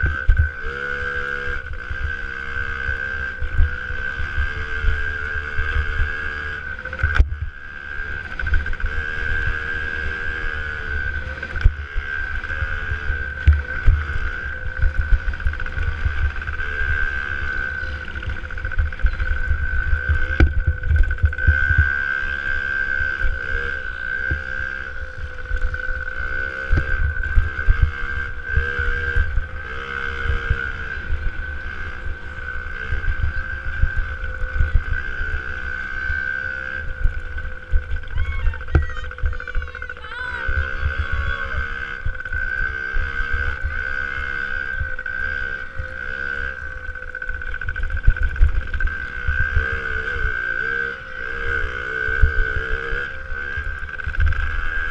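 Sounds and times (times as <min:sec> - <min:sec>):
dirt bike engine revving: 0:00.0 - 0:54.9
steady high whine: 0:00.0 - 0:54.9.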